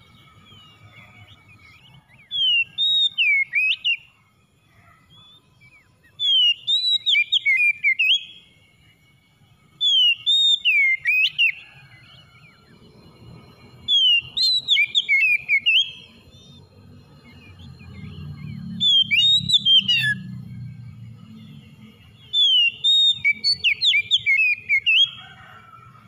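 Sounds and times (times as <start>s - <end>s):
bird singing whistled notes: 0.0s - 26.0s.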